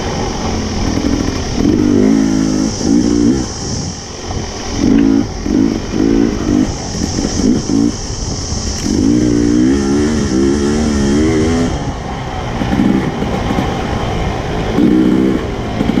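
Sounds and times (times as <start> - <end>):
tyre hiss: 0.0 - 13.9
dirt bike engine revving: 0.0 - 16.0
wind: 0.0 - 16.0.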